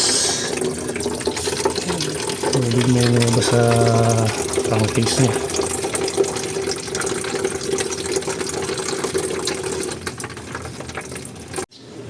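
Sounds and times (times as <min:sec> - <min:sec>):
oil pouring and splashing: 0:00.0 - 0:11.7.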